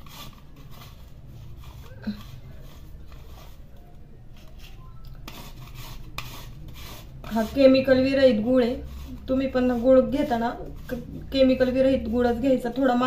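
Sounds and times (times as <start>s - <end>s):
scraping on a metal grater: 0.0s - 3.6s, 5.2s - 13.0s.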